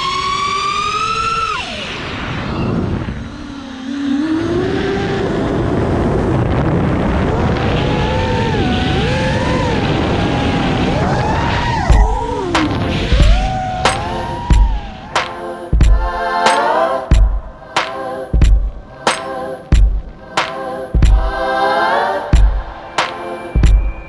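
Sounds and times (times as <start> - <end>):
drone motors and propellers whining: 0.0 - 21.1.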